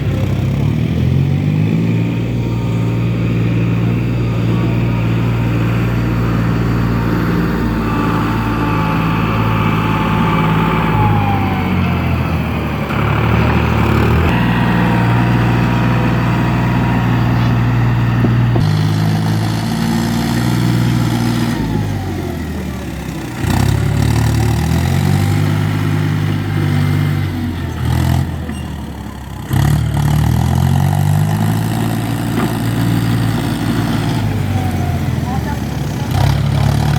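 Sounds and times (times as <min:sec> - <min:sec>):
tractor engine under load: 0:00.0 - 0:36.9.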